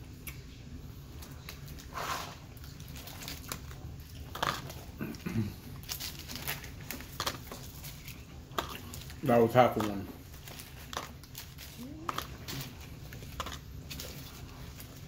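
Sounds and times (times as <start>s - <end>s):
person chewing: 0.0s - 15.0s
paper wrapper crinkling: 2.6s - 15.0s.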